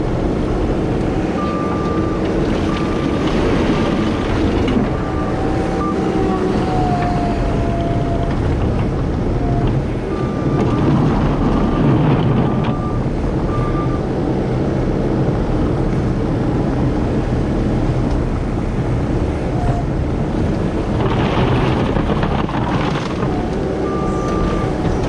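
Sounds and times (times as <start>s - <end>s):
diesel engine rumble: 0.0s - 25.0s
road noise: 0.0s - 25.0s.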